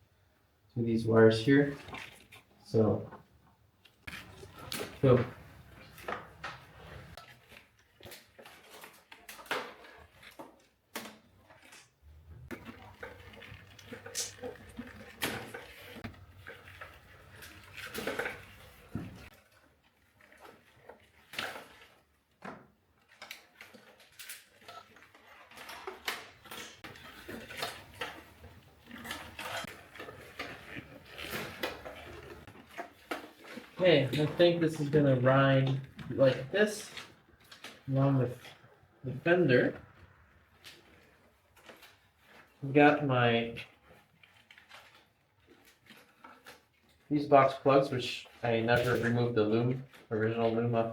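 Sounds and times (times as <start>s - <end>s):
wiring harness rattling and rustling: 1.0s - 50.9s.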